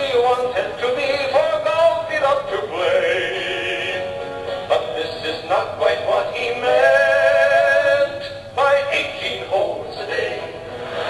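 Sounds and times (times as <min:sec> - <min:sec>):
men singing humorous song: 0:00.0 - 0:11.0.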